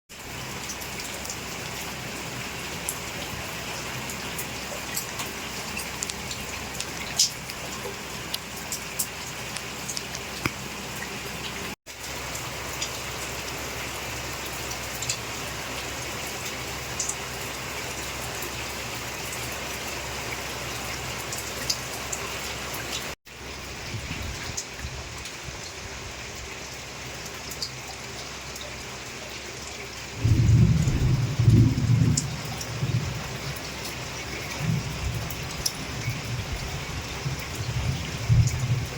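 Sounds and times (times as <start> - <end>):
heavy rain pouring: 0.1 - 38.9.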